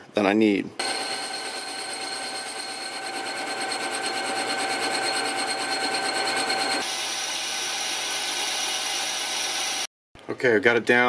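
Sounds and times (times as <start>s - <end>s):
lathe machine whine: 0.8s - 9.9s.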